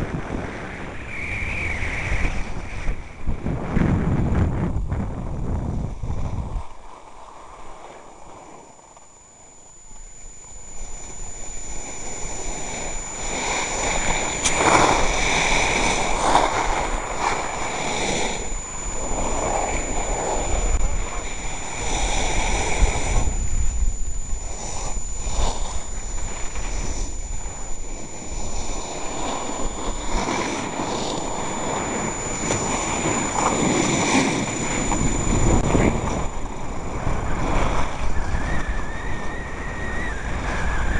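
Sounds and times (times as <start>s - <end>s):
wind buffeting microphone: 0.0s - 8.4s, 9.2s - 40.9s.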